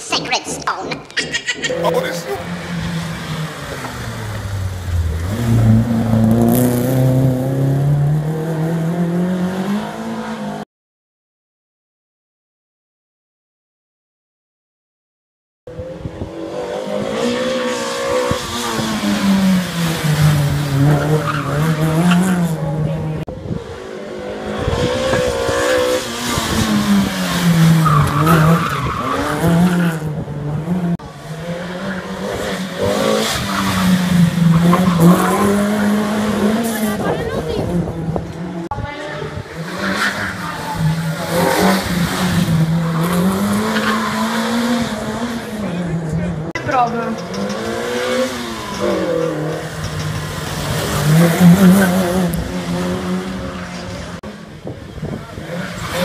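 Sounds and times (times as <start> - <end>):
rally car engine revving: 1.5 - 10.6, 15.7 - 56.0.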